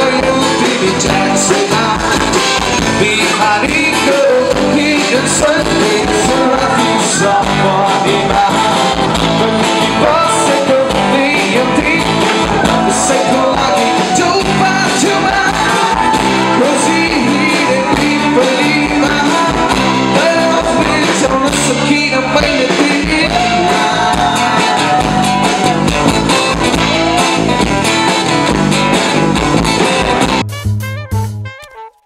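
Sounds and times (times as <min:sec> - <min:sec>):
person singing: 0:00.0 - 0:28.2
full band playing: 0:00.0 - 0:32.0.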